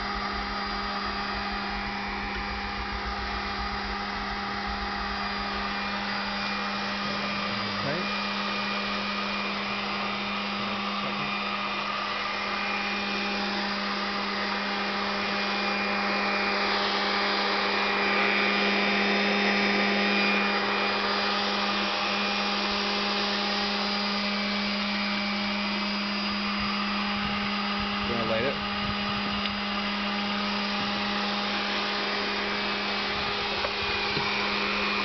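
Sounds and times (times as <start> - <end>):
blower motor humming with hissing rush: 0.0 - 35.0.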